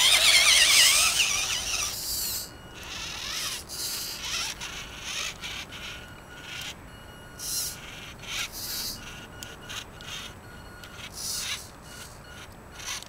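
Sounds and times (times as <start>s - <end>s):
toy car electric motor whining: 0.0s - 6.8s, 7.4s - 13.0s.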